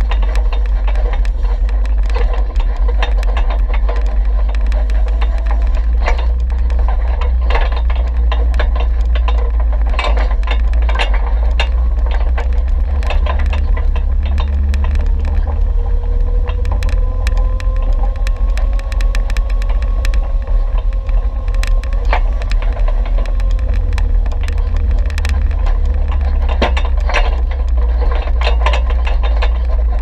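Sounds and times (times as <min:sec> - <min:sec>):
gravel and parts rattling: 0:00.0 - 0:30.0
steady whine: 0:00.0 - 0:30.0
vehicle low rumble: 0:00.0 - 0:30.0.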